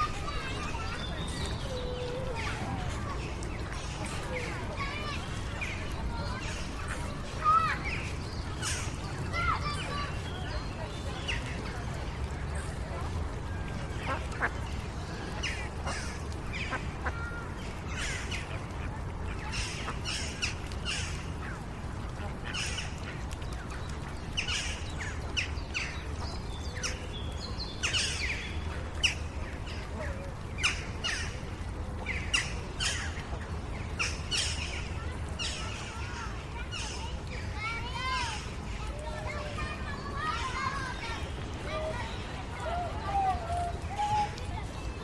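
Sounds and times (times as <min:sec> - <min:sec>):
birds chirping: 0:00.0 - 0:45.0
distant children's voices: 0:00.0 - 0:45.0.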